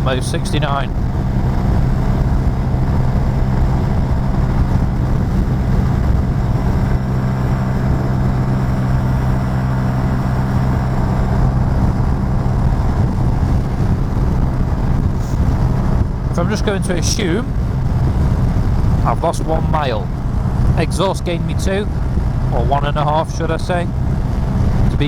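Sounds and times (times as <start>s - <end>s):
motorcycle engine running flat out: 0.0s - 25.0s.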